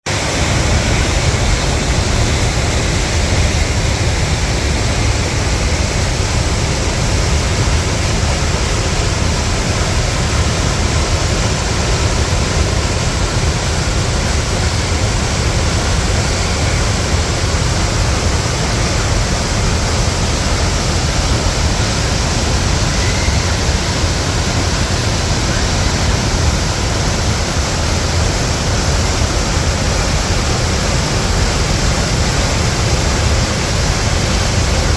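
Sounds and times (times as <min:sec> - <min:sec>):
flooded river rushing: 0:00.1 - 0:34.9.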